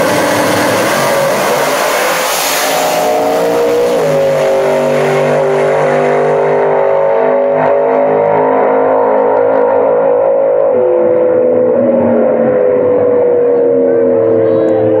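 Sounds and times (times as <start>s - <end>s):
drag racing car engines: 0.0s - 15.0s.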